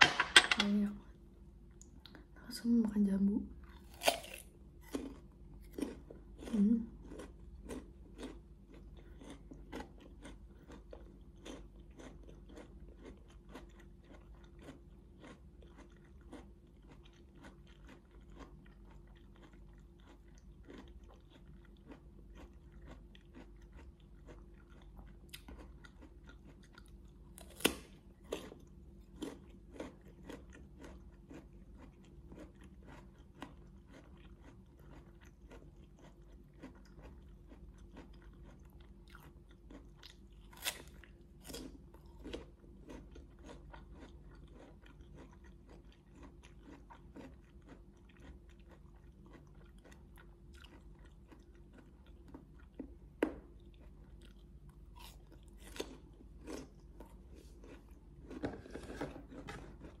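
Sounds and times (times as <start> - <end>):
crunchy wet chewing: 3.6 - 60.0.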